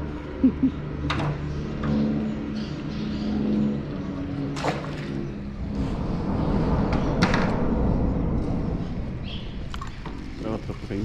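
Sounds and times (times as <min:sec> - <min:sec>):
road traffic drone: 0:00.0 - 0:11.0.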